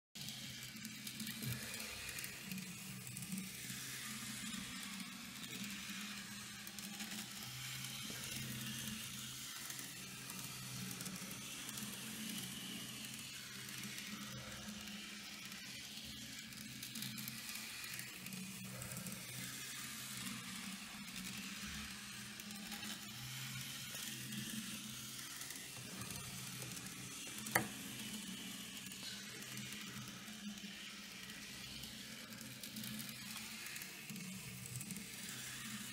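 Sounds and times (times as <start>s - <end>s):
small motor hum: 0.2s - 35.9s
wheels hissing on rail: 0.3s - 35.9s.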